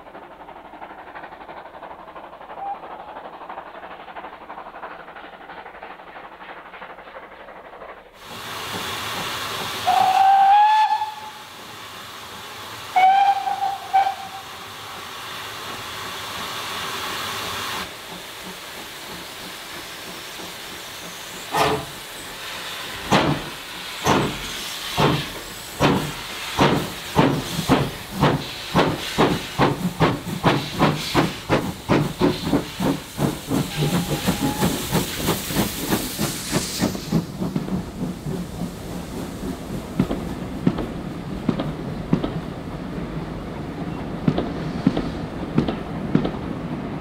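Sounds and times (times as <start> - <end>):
steam hissing: 0.0 - 46.9
steam locomotive exhaust chuffs: 0.0 - 47.0.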